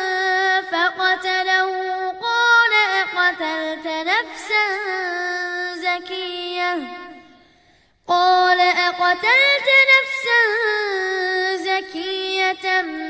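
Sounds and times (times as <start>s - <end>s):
child chanting melodically: 0.0s - 7.4s, 8.1s - 13.0s.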